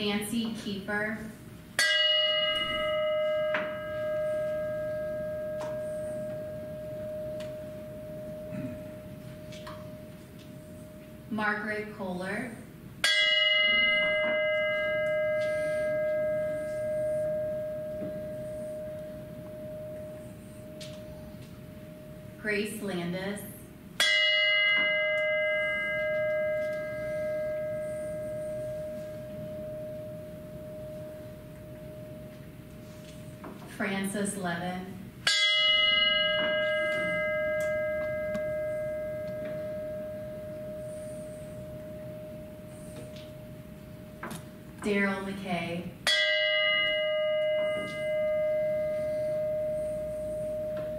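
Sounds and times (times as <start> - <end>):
bell ringing: 1.8 - 11.1, 13.0 - 22.9, 24.0 - 33.0, 35.2 - 44.2, 46.0 - 50.9.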